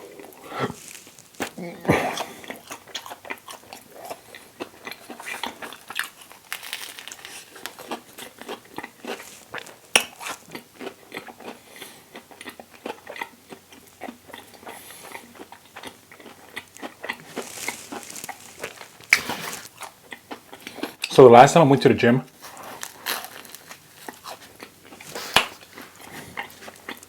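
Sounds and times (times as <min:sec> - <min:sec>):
crisp chewing crunches: 0:00.0 - 0:21.2, 0:22.3 - 0:27.0.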